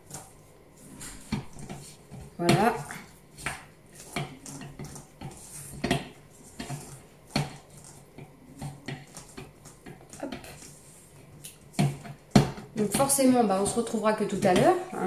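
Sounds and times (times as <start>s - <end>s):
spatula scraping metal bowl: 0.0s - 15.0s.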